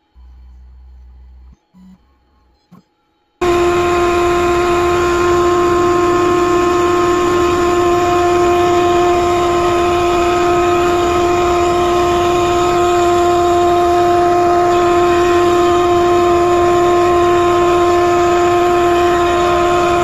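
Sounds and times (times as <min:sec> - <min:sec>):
cnc router spindle whine: 0:03.4 - 0:20.0
router bit carving wood: 0:03.4 - 0:20.0.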